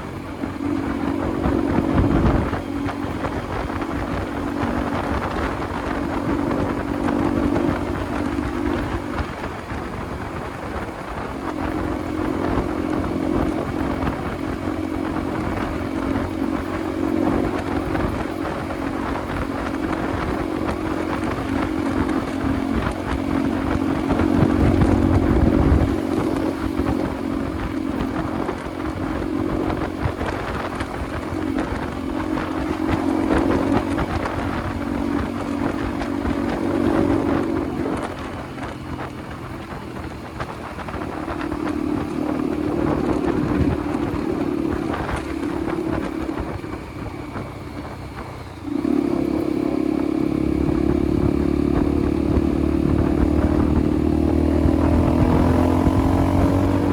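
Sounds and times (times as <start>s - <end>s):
motorcycle engine running: 0.0s - 56.9s
wind buffeting microphone: 0.0s - 56.9s.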